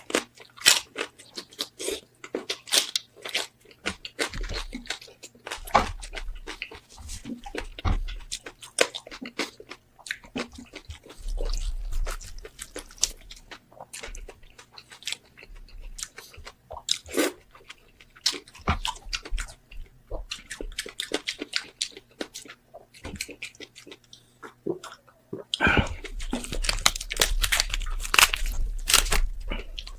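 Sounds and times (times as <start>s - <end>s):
crunching bites and chewing: 0.0s - 29.9s.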